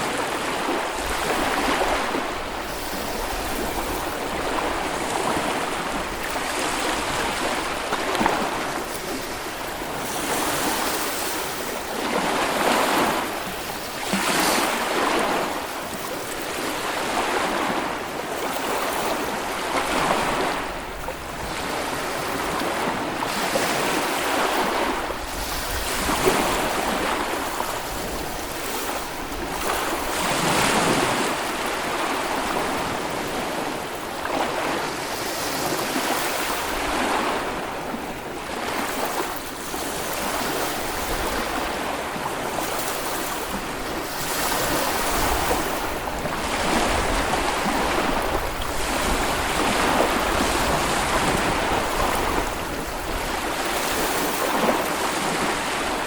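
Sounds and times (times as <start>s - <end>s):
small waves breaking on a beach: 0.0s - 56.0s.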